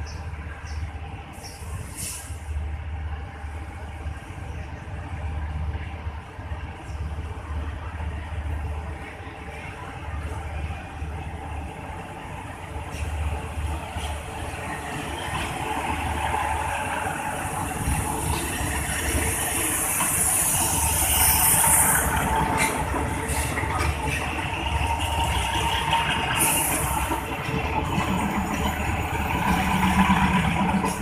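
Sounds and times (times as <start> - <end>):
diesel train engine rumble: 0.0 - 31.0
train wheels rattling on rails: 0.0 - 31.0.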